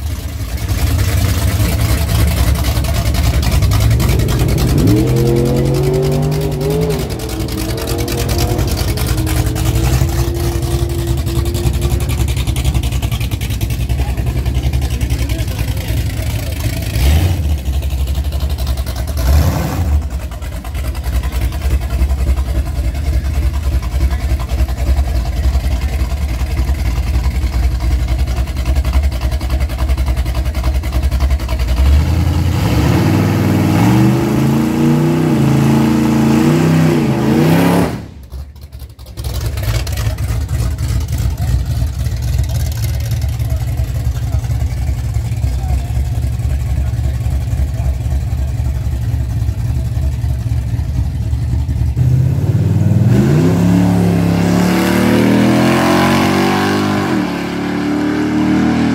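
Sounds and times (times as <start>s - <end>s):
engine revving: 0.0s - 58.9s.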